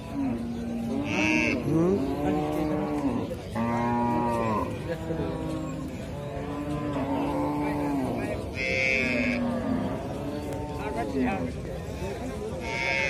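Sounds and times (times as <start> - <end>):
cattle mooing: 0.1 - 10.9.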